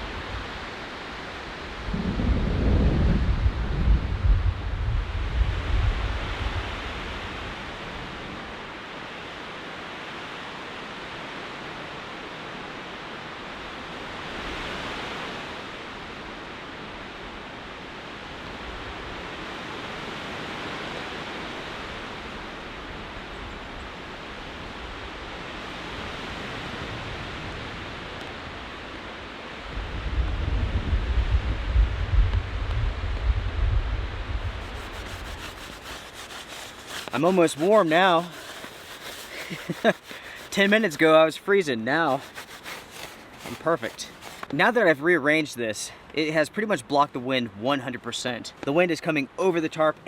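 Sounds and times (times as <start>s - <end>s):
wind: 0.0s - 50.0s.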